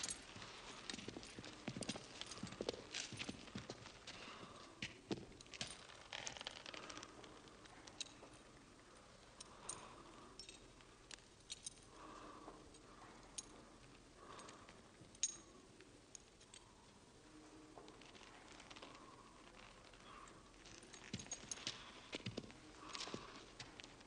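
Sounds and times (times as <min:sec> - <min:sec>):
light metallic jingles: 0:00.0 - 0:16.9, 0:17.5 - 0:24.0.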